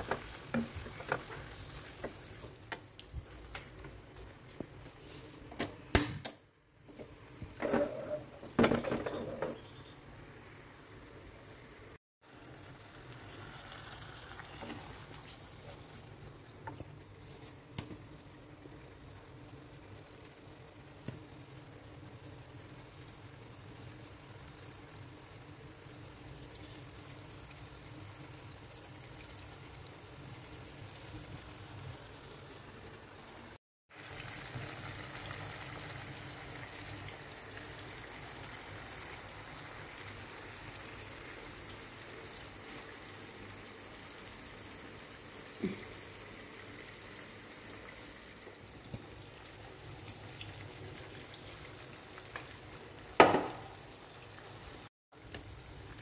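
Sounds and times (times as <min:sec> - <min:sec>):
oil bubbling in a pan: 0:00.0 - 0:05.2, 0:06.5 - 0:56.0.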